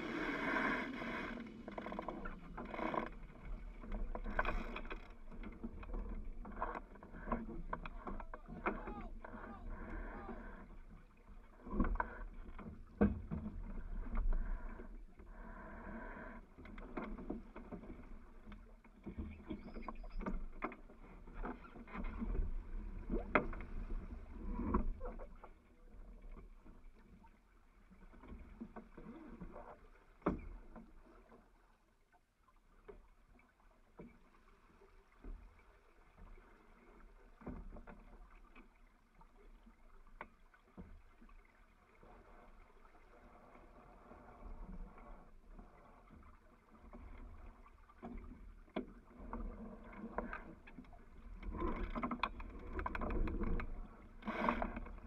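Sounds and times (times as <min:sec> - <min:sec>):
water rushing along hull: 0:00.0 - 0:55.0.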